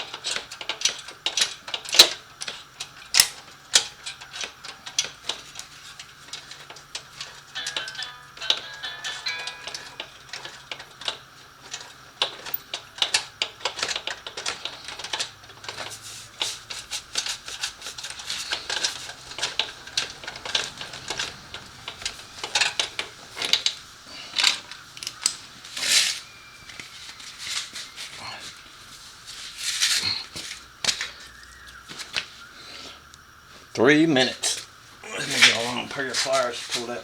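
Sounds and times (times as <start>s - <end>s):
hand tools clinking on metal: 0.0s - 31.1s, 34.2s - 37.0s.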